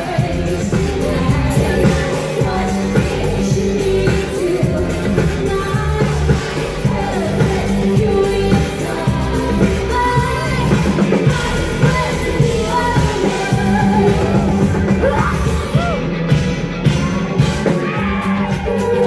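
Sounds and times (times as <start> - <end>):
pop-rock music with singing: 0.0 - 19.0.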